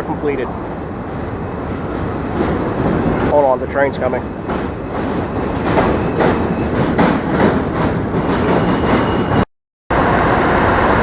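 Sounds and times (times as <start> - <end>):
subway train rumbling: 0.0 - 11.0
wheels clacking over rail joints: 0.3 - 9.4.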